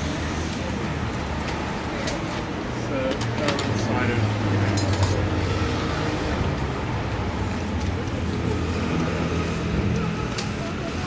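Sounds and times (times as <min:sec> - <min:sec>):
busy street noise: 0:00.0 - 0:11.0.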